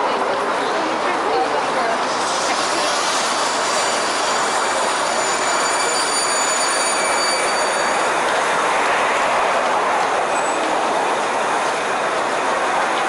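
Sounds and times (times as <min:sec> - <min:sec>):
heavy street traffic roar: 0:00.0 - 0:13.0.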